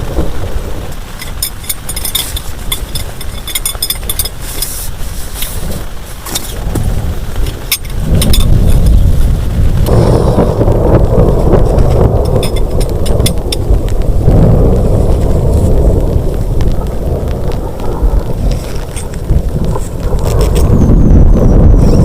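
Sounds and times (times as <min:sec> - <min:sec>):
heavy rain: 0:00.0 - 0:22.0
raindrops tapping a shelter: 0:00.0 - 0:22.0
thunder rolling: 0:00.0 - 0:22.0.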